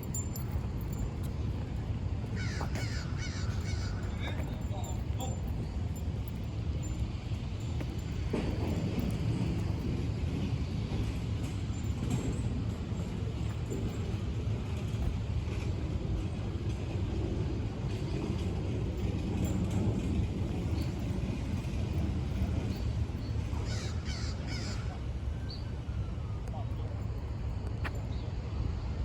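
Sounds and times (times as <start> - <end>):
city street traffic rumble: 0.0 - 29.0.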